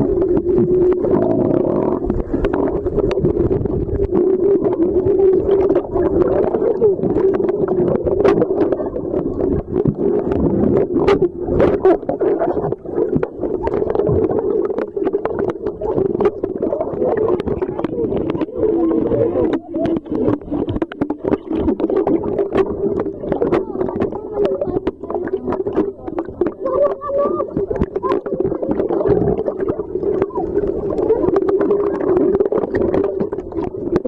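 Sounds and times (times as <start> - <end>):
underwater clicks and crackles: 0.0 - 34.0
underwater drone: 0.0 - 34.0.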